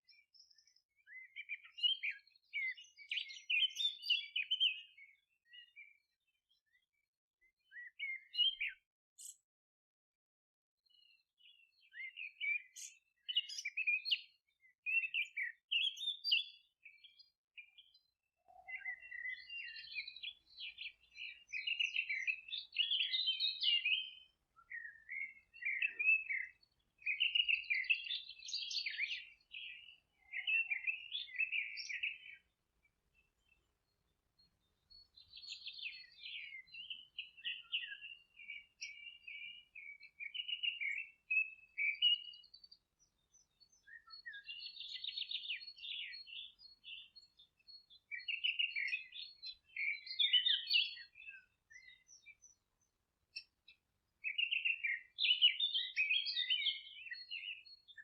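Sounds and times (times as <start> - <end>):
songbirds chirping and singing: 0.0 - 9.5, 10.8 - 58.0.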